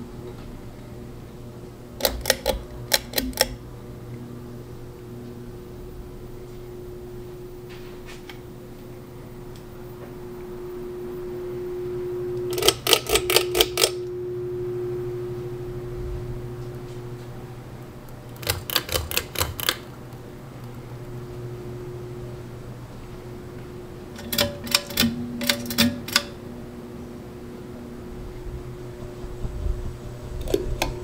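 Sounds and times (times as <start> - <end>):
ceiling fan motor hum: 0.0 - 31.0.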